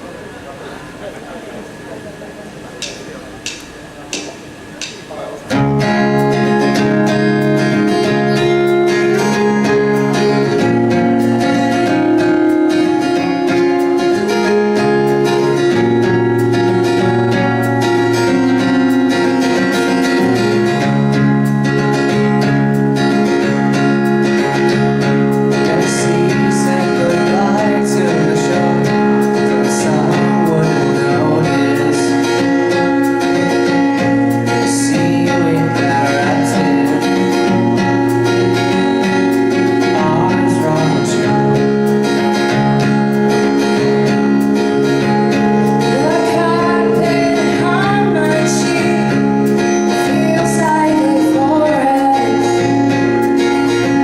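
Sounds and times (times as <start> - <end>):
strummed guitar chords: 2.8 - 54.0
person singing: 5.6 - 44.1, 44.8 - 54.0.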